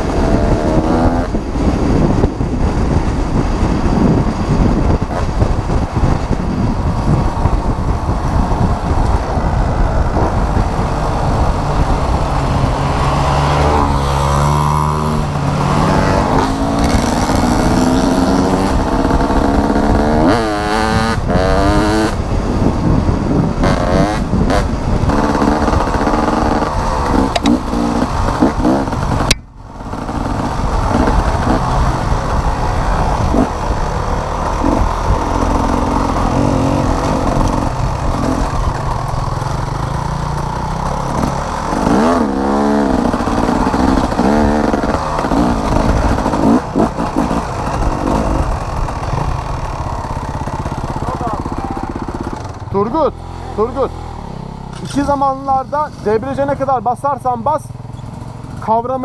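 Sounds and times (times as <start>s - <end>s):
dirt bike engine revving: 0.0s - 56.8s.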